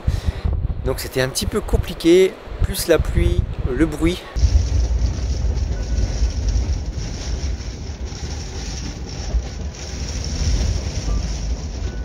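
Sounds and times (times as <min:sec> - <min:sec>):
wind buffeting a vehicle: 0:00.0 - 0:12.0.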